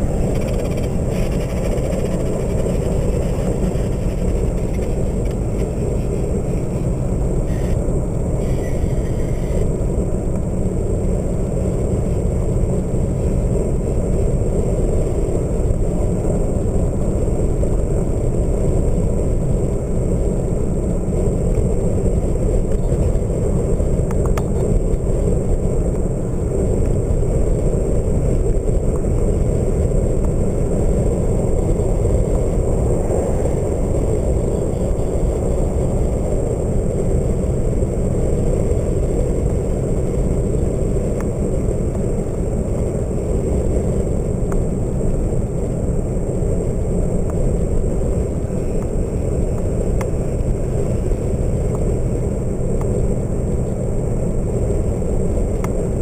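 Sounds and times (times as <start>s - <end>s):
vehicle road noise: 0.0s - 56.0s
wind rush: 0.0s - 56.0s.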